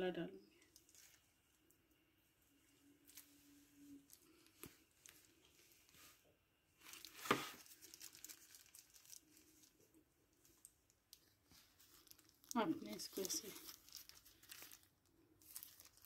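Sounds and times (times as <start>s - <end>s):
plastic gloves crinkling: 0.5s - 16.0s.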